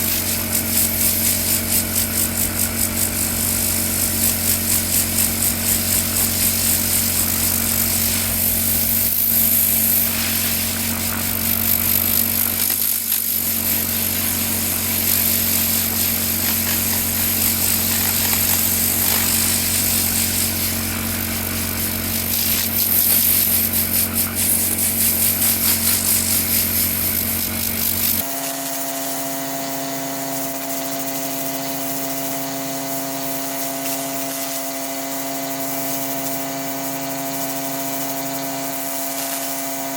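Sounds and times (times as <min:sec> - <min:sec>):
power tool motor humming: 0:00.0 - 0:39.9.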